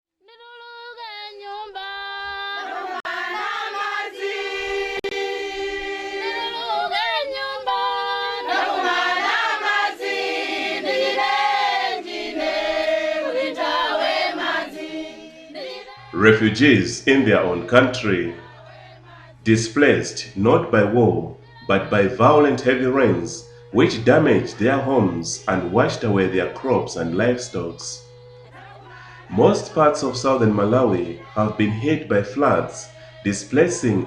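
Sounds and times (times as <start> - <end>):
choir singing unaccompanied: 0.8 - 34.0.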